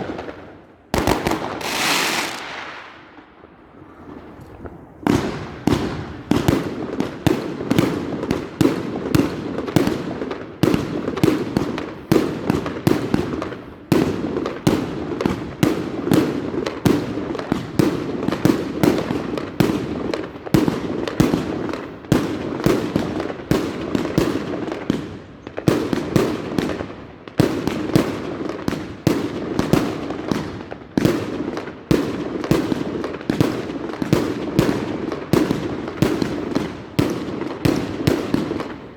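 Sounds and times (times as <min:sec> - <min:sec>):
firework explosions: 0:00.0 - 0:38.9.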